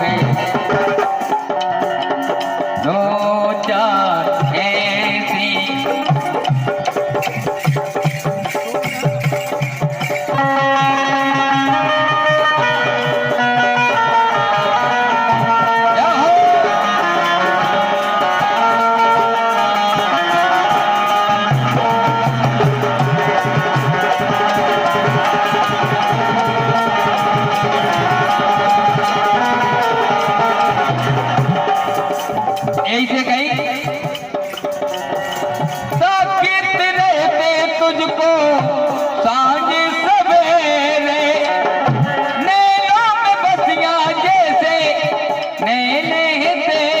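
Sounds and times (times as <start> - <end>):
hand drums fast rhythm: 0.0 - 11.8, 15.2 - 47.0.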